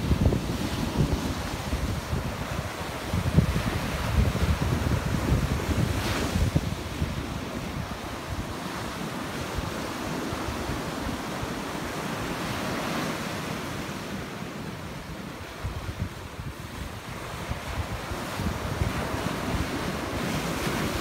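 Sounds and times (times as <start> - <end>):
low rumble of waves: 0.0 - 21.0
ocean surf breaking on rocks: 0.0 - 21.0.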